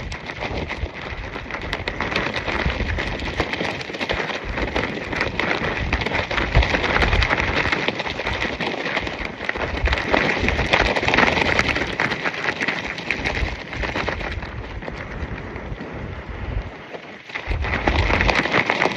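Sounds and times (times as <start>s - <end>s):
fabric flapping in wind: 0.0s - 18.9s
wind buffeting microphone: 0.0s - 18.9s.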